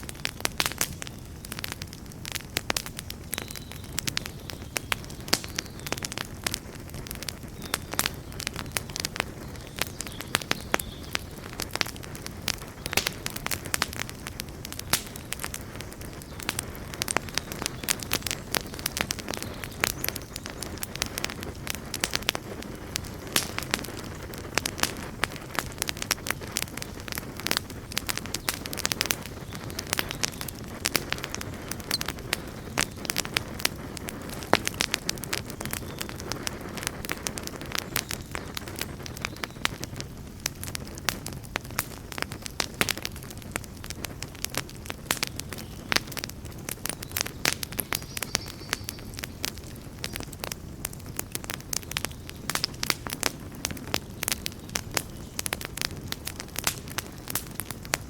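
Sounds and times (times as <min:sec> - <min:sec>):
campfire roaring: 0:00.0 - 0:58.0
fire crackling and popping: 0:00.0 - 0:58.0.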